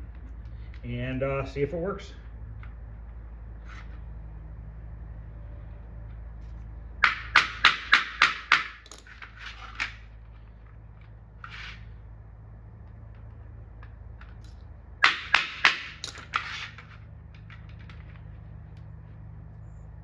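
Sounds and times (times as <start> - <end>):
low steady hum: 0.0 - 7.1, 8.8 - 20.0.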